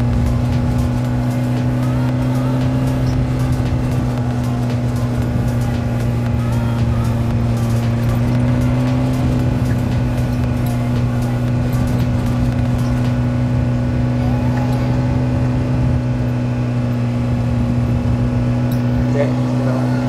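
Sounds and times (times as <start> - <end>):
dune buggy engine droning: 0.0 - 20.0.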